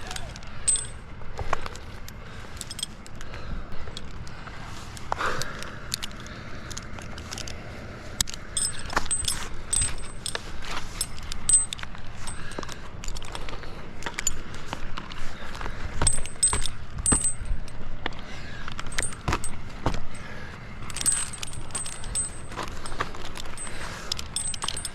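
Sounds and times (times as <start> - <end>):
metal climbing hardware jingling: 0.0 - 4.4, 5.4 - 7.6, 8.2 - 24.9.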